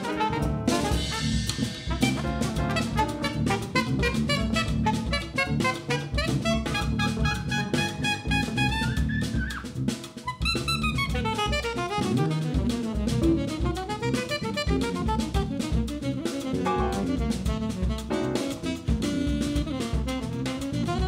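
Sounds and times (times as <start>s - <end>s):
saxophone and trumpet melody: 0.0s - 9.4s, 10.2s - 21.0s
busy drum beat: 0.0s - 21.0s
live jazz group playing: 0.0s - 21.0s.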